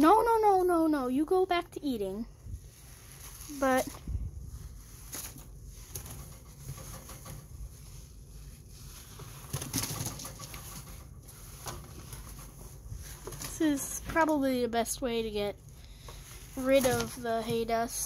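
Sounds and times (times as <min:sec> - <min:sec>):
rustling of hay and cloth: 0:02.0 - 0:14.4, 0:15.9 - 0:18.0.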